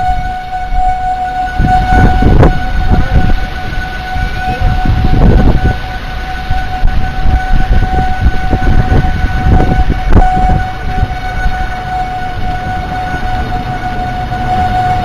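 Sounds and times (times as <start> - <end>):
steady high-pitched tone: 0.0 - 15.0
wind buffeting microphone: 0.0 - 15.0.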